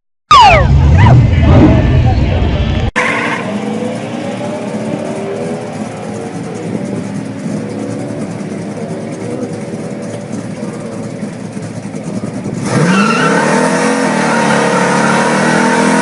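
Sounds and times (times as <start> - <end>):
car engine idling and revving: 0.3 - 16.0.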